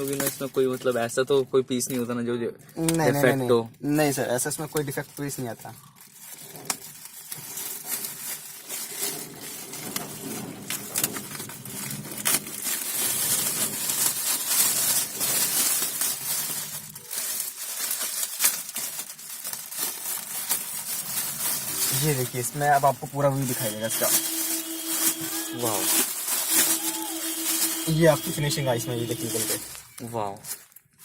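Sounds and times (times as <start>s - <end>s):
packaging crinkling: 4.0s - 31.0s.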